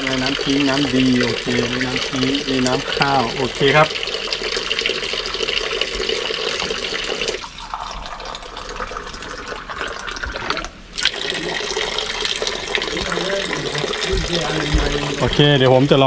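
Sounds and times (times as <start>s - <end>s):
water running from filter: 0.0s - 16.0s.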